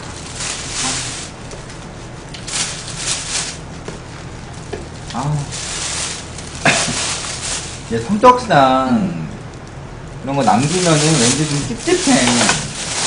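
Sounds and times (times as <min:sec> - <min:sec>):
plastic bag crinkling: 0:00.0 - 0:08.5, 0:09.1 - 0:13.0.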